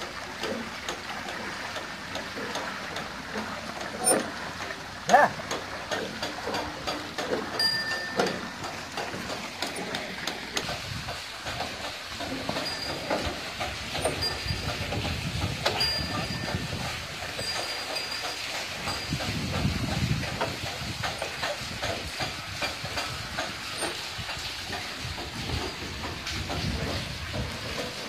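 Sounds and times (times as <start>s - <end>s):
iron buckets rattling and clanking: 0.0s - 28.0s
water pouring into channel: 0.0s - 28.0s.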